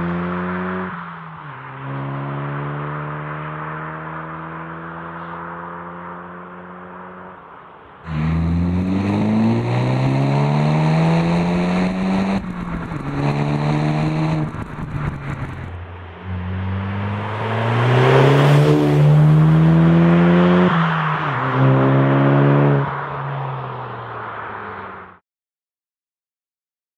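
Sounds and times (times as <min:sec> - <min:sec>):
car accelerating hard: 0:00.0 - 0:07.4, 0:08.1 - 0:23.7.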